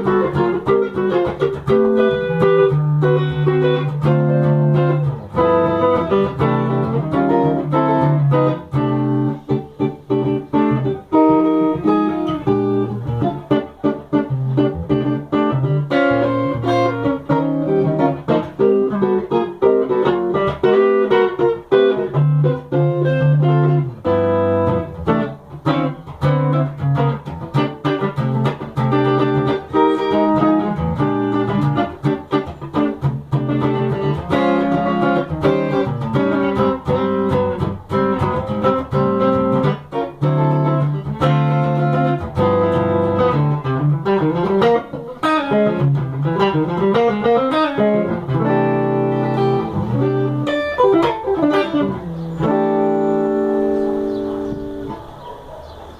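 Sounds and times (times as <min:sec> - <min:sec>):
plucked guitar melody: 0:00.0 - 0:55.8.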